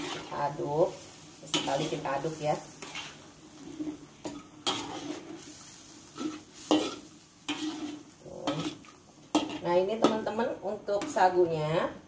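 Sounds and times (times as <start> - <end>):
metal spatula scraping a wok: 0.0 - 10.4.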